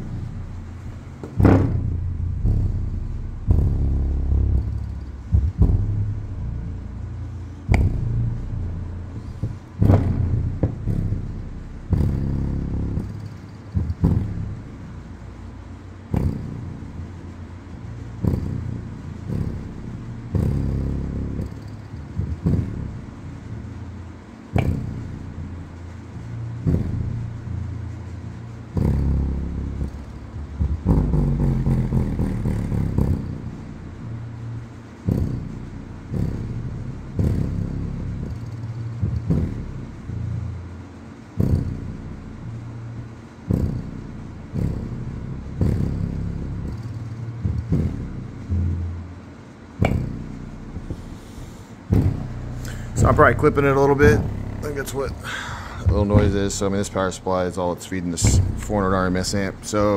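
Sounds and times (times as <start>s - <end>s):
amp clipping noise: 0.0s - 23.8s, 24.5s - 33.6s, 41.3s - 59.9s
deep bass notes from subwoofer: 0.0s - 59.9s.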